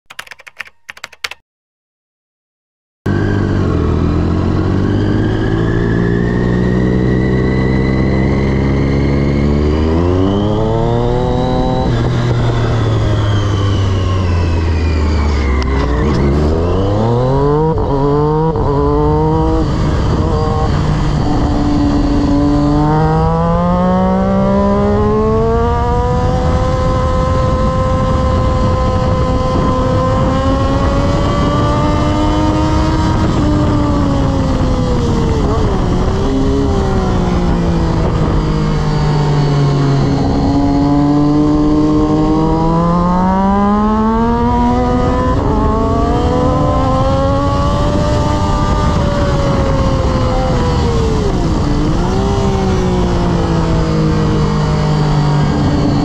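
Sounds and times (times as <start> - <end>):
motorcycle engine revving: 3.1 - 56.0
wind rush: 9.6 - 43.0, 43.6 - 56.0.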